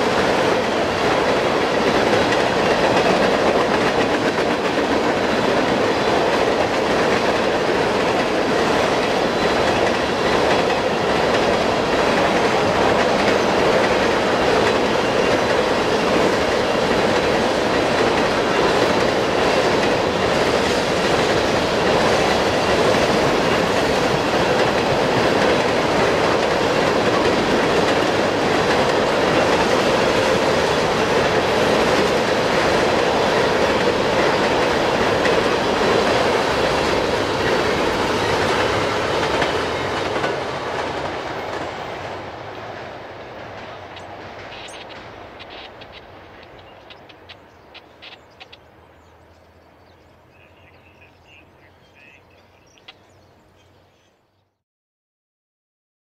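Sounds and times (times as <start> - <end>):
freight train wheels on rails: 0.0 - 53.6.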